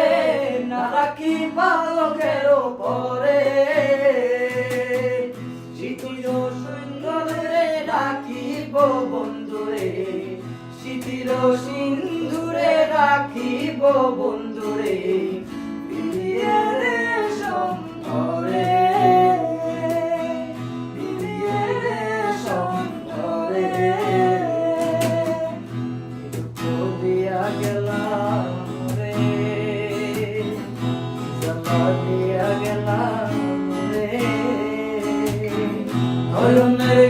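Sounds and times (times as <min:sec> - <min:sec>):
person singing folk song: 0:00.0 - 0:37.0
plucked guitar: 0:00.0 - 0:37.0.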